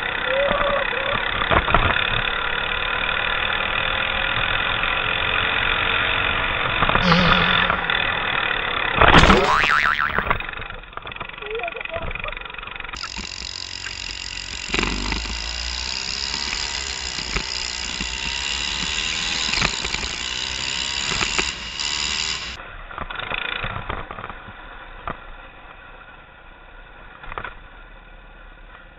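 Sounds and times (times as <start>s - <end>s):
go-kart engine running: 0.0s - 23.6s.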